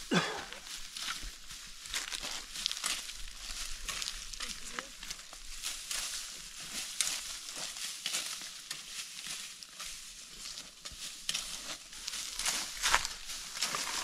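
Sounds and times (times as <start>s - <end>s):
dry grain stalks crackling: 0.0s - 14.0s.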